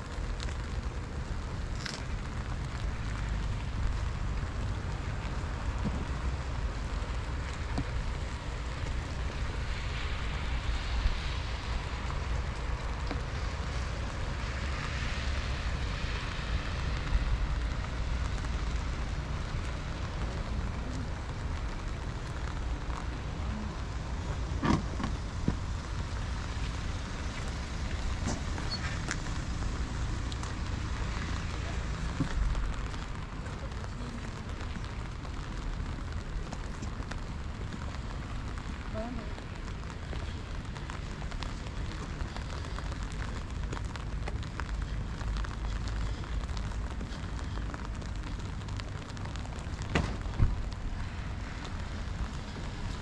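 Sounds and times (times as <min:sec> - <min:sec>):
light rain hissing: 0:00.0 - 0:53.0
wind rumbling on microphone: 0:00.0 - 0:53.0.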